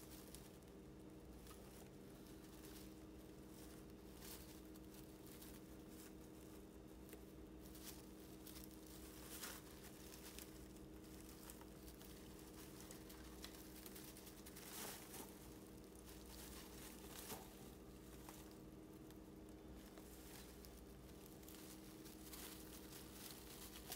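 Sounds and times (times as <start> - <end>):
faint steady hum: 0.0 - 23.9
rabbits rustling in hay: 0.0 - 23.9.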